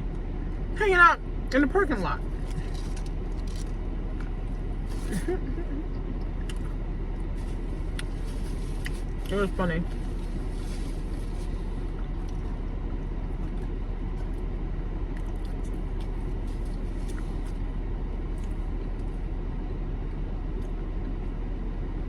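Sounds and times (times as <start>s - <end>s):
low rumble inside car: 0.0s - 22.0s.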